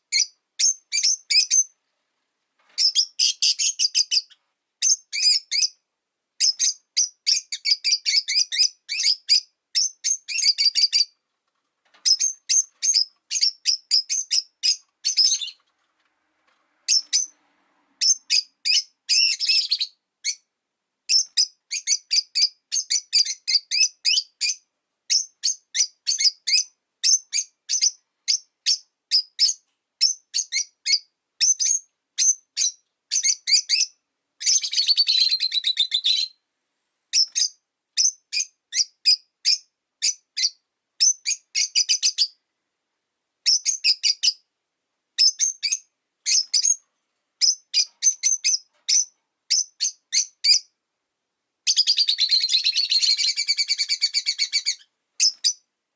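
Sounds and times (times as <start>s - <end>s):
lovebirds chirping: 0.0s - 1.8s, 2.7s - 5.8s, 6.4s - 11.2s, 12.0s - 15.7s, 16.9s - 17.4s, 18.0s - 20.5s, 21.1s - 36.4s, 37.1s - 42.4s, 43.4s - 44.5s, 45.2s - 46.8s, 47.4s - 50.8s, 51.6s - 55.7s.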